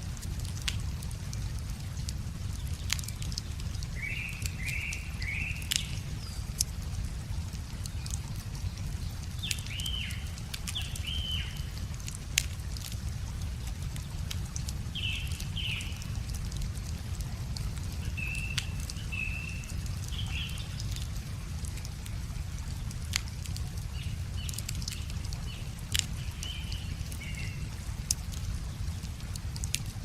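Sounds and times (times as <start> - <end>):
wood fire crackling: 0.0 - 30.0
small birds chirping: 2.0 - 6.8, 7.4 - 16.9, 17.5 - 22.0, 22.7 - 30.0.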